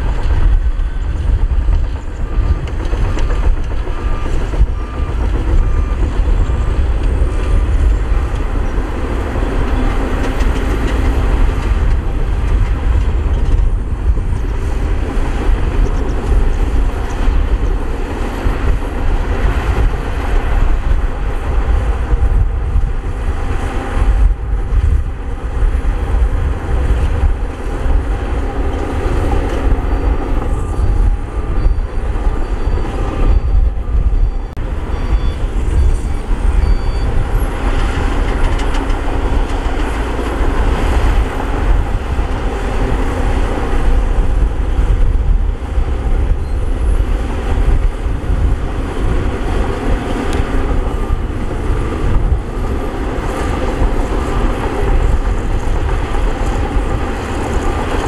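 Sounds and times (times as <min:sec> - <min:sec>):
diesel engine rumbling: 0:00.0 - 0:58.0.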